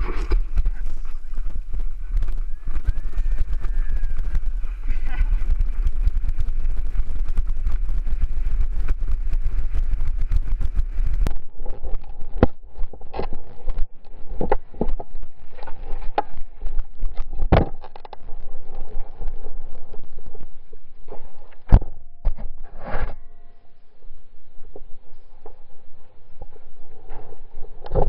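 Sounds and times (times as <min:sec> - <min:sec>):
bike tyres and frame rattling: 0:00.0 - 0:23.3
wind rushing over camera: 0:00.0 - 0:28.0.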